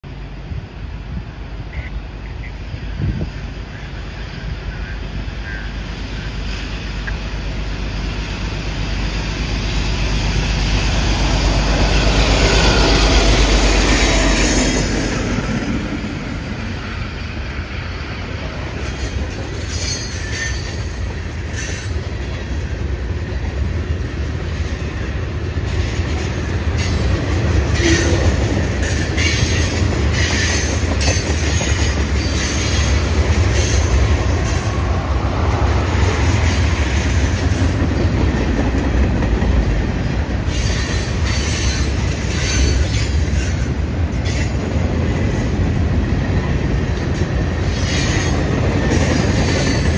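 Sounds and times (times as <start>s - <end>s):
diesel locomotive passing: 0.0s - 49.9s
freight cars rumbling: 0.0s - 49.9s.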